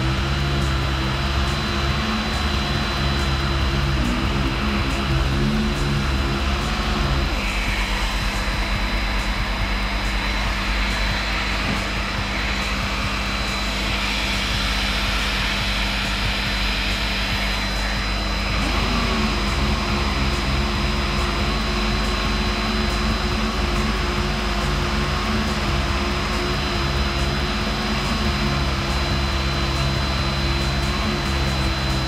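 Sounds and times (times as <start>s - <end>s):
low motor hum: 0.0s - 32.0s
sanding equipment whirring: 0.0s - 32.0s.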